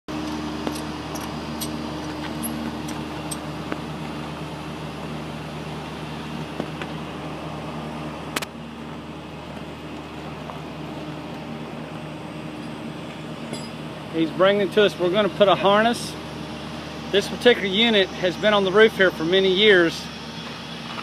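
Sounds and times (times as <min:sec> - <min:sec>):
heavy machinery drone: 0:00.1 - 0:21.0.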